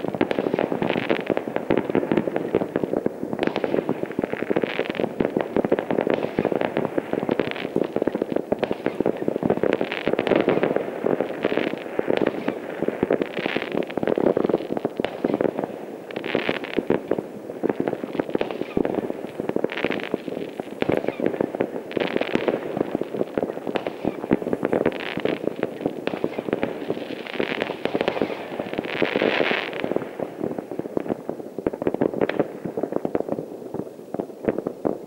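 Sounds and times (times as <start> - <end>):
distant fireworks crackling: 0.0 - 35.0.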